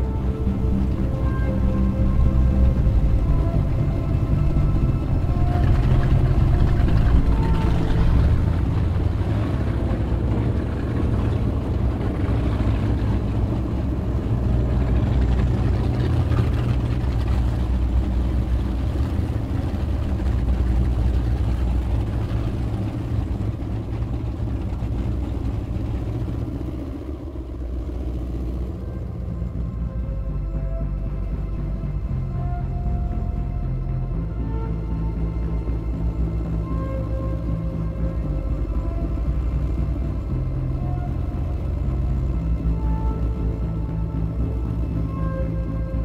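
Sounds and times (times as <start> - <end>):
powerboat engines running: 0.0 - 46.0.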